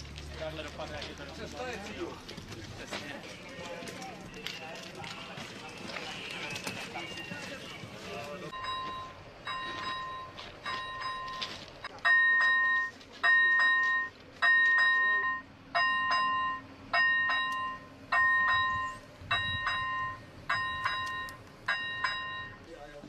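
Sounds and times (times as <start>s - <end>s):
level-crossing warning tone: 3.2s - 23.0s.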